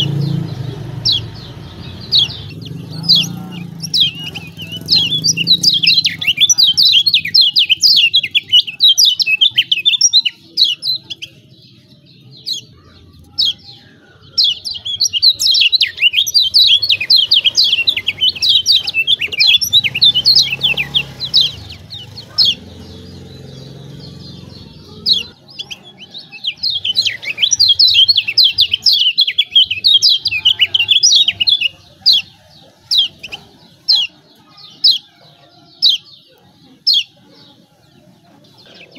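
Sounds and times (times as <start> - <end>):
bird chattering with high chirps: 0.0 - 38.9.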